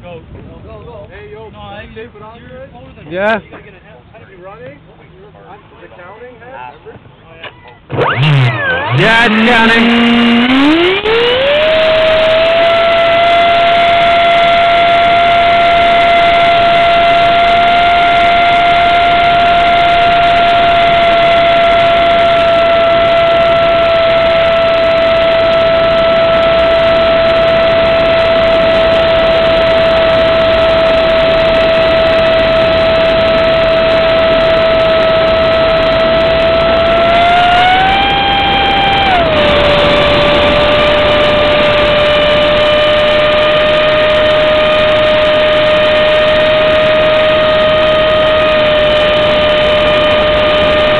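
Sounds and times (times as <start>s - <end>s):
electric motor whining: 7.9s - 50.9s.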